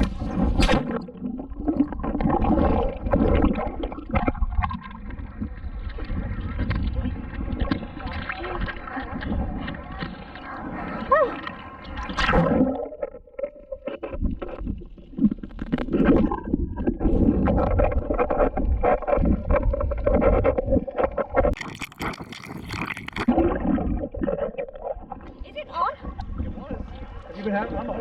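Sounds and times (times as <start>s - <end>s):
muffled water sloshing and gurgling: 0.0s - 28.0s.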